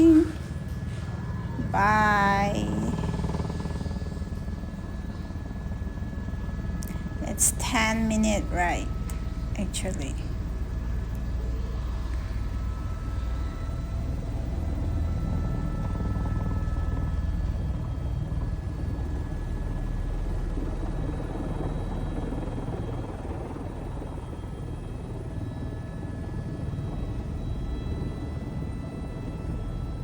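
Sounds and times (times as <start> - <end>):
faint high whine: 0.0 - 30.0
helicopter rotor and engine drone: 0.0 - 30.0.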